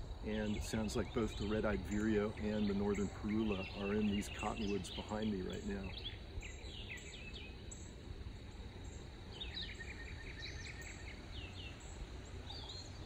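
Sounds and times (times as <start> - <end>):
buzzy bird trill: 0.0 - 13.0
songbirds singing: 0.0 - 13.0
steady low rumble: 0.0 - 13.0.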